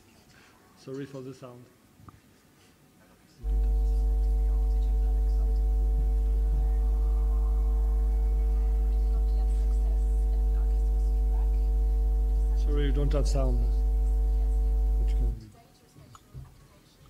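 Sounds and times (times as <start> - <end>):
electrical mains hum: 3.3 - 17.0.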